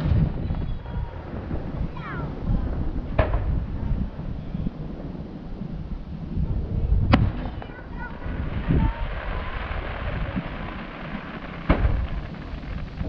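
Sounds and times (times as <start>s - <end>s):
distant fireworks bangs: 0.0s - 13.0s
dull firework boom: 0.0s - 13.0s.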